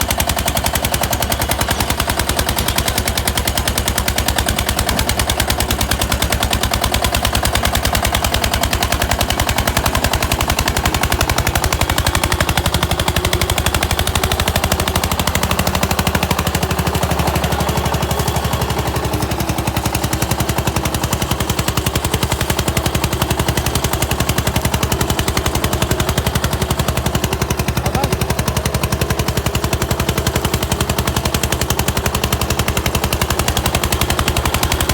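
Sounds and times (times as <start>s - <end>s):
tractor diesel engine working hard: 0.0s - 34.9s.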